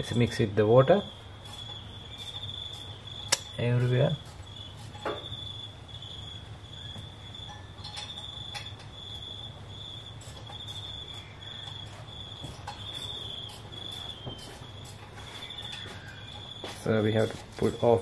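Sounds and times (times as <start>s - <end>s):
insect-like chirring: 0.0s - 18.0s
low background hum: 0.0s - 18.0s.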